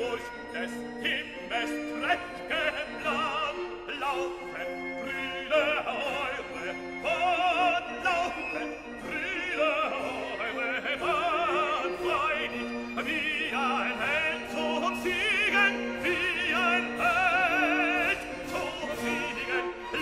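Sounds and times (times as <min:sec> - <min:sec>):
held accompanying notes: 0:00.0 - 0:20.0
operatic singing voice: 0:00.0 - 0:20.0.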